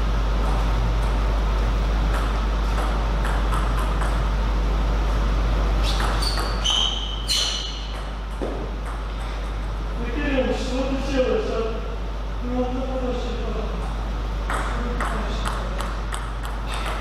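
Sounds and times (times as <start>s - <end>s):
steady hall hum: 0.0s - 17.0s.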